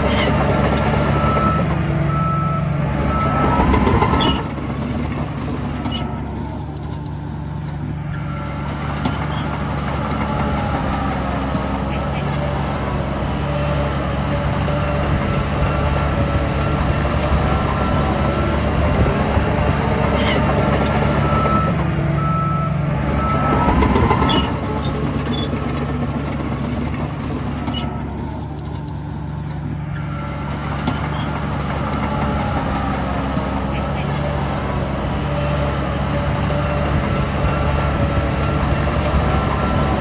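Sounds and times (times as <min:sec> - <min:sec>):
heavy diesel machinery running: 0:00.0 - 0:40.0
truck reversing beeper: 0:00.0 - 0:40.0.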